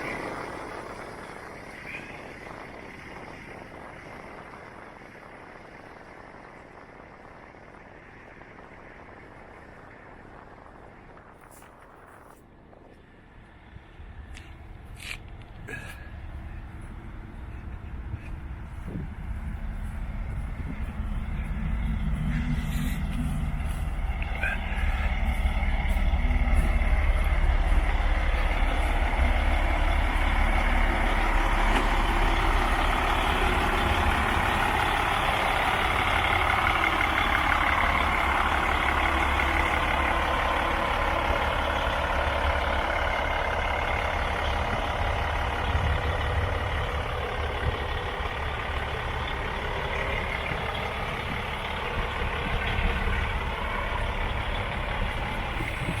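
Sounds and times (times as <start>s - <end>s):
truck engine rumble: 0.0s - 56.0s.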